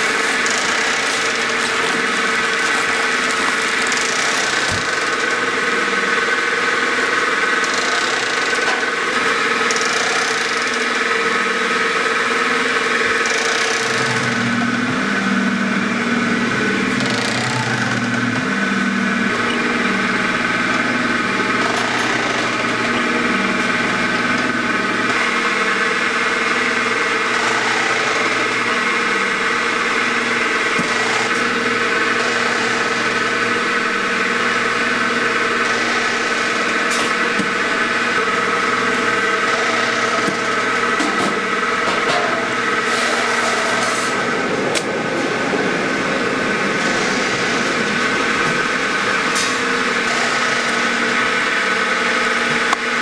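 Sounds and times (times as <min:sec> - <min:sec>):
machinery hum: 0:00.0 - 0:53.0.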